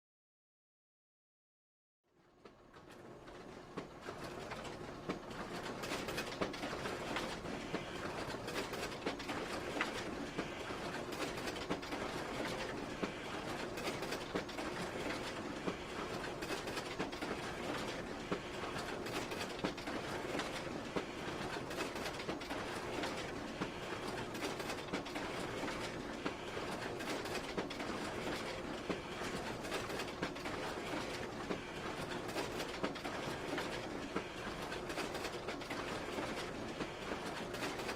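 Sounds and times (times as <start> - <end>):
photocopier running: 2.4 - 37.9.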